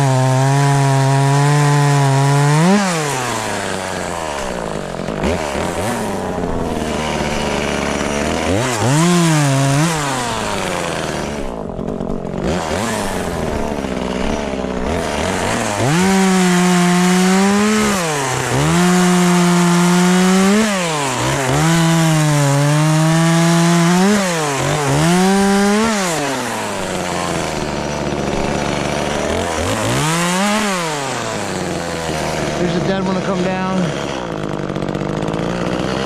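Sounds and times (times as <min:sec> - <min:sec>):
chainsaw cutting wood: 0:00.0 - 0:36.0
chainsaw idling and revving: 0:00.0 - 0:36.0.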